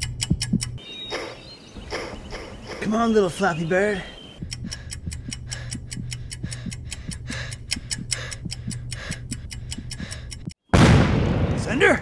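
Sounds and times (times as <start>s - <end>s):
timer ticking rapidly: 0.0s - 3.4s, 4.4s - 10.6s.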